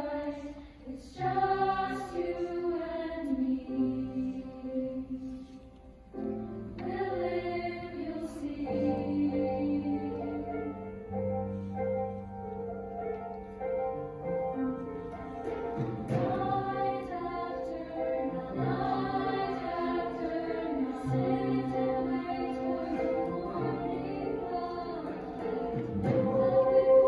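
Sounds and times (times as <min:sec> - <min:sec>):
choir singing sustained chords: 0:00.0 - 0:12.1, 0:14.2 - 0:27.0.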